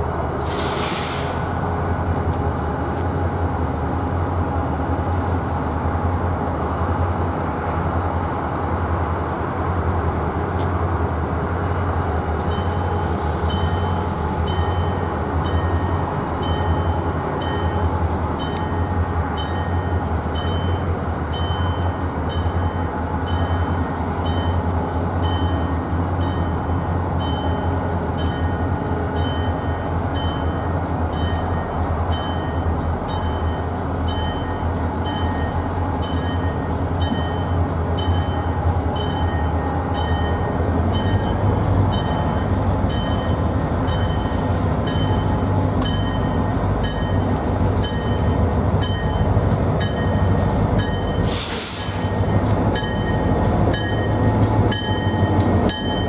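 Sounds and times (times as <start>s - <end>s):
diesel locomotive humming: 0.0s - 56.0s
locomotive bell ringing: 1.7s - 51.3s, 51.9s - 56.0s.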